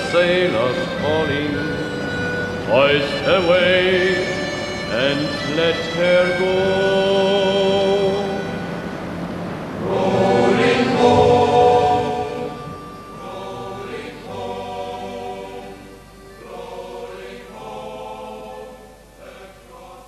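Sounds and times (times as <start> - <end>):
choir singing: 0.0 - 8.9, 9.7 - 20.0.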